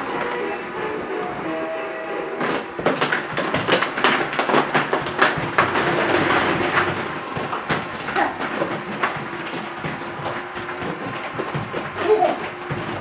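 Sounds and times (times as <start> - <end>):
plastic balls clattering on wood: 0.0 - 1.4, 2.3 - 13.0.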